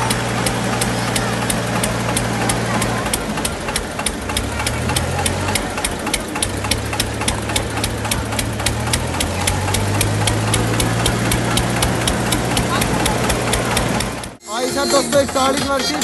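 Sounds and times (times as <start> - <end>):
diesel tractor engines knocking: 0.0 - 16.0.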